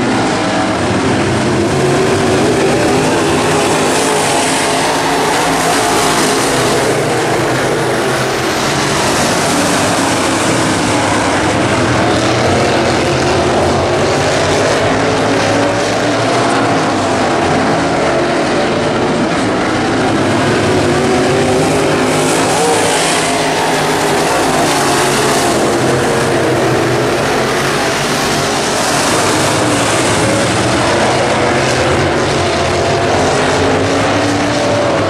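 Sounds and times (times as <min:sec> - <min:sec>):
race car engines droning: 0:00.0 - 0:35.0.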